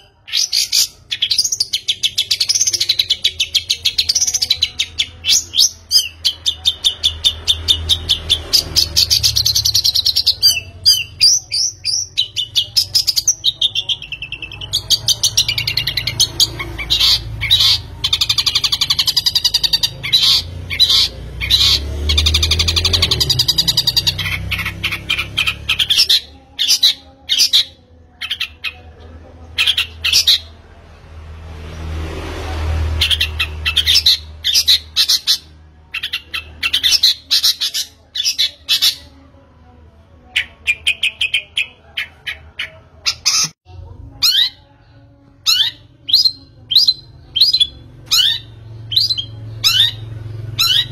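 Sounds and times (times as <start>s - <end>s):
birds chirping and squawking: 0.0s - 30.8s, 31.6s - 50.9s.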